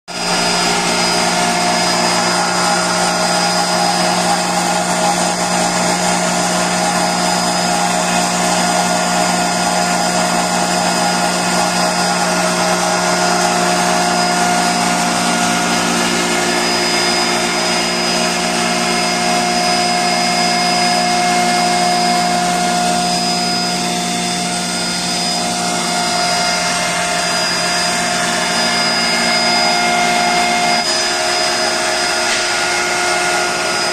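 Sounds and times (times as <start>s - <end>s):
hammer mill whirring hum: 0.1s - 33.9s
steady high whine: 0.1s - 33.9s.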